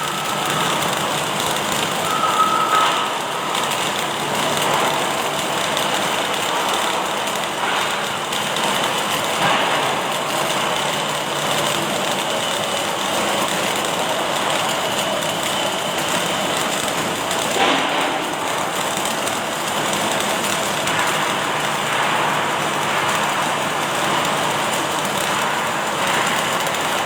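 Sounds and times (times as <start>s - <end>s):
welding machine rushing noise: 0.0s - 27.0s.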